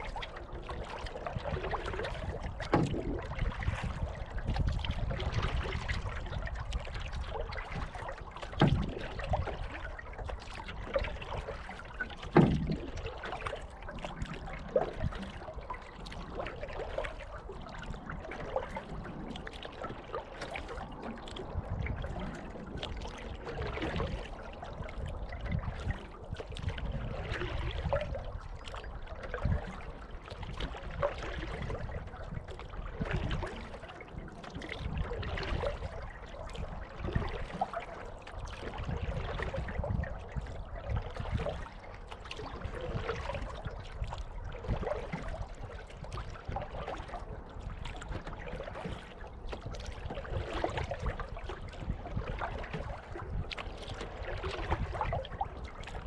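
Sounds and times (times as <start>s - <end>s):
paddle dipping and dripping: 0.0s - 56.0s
steady wash of water: 0.0s - 56.0s.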